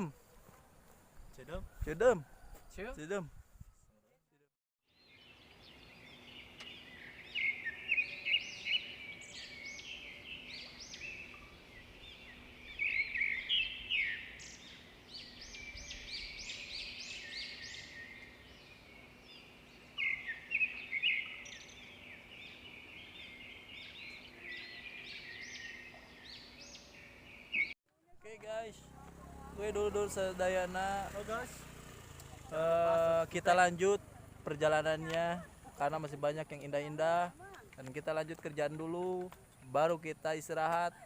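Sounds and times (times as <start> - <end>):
wild birds singing: 0.0 - 3.8, 4.9 - 27.8, 28.5 - 41.0.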